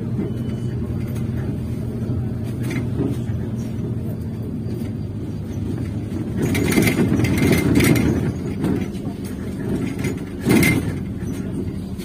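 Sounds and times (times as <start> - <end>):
road noise: 0.0 - 12.0
vehicle cabin running hum: 0.0 - 12.0.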